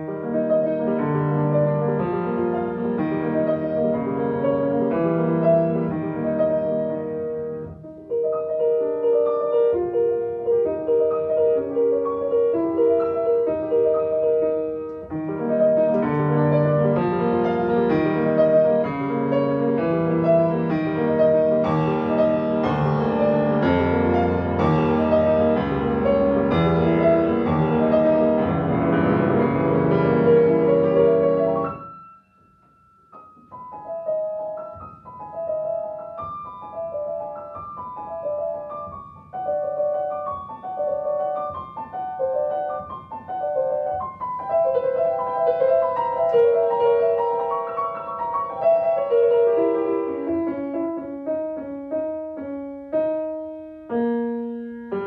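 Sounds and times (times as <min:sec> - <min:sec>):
grand piano playing: 0:00.0 - 0:55.0.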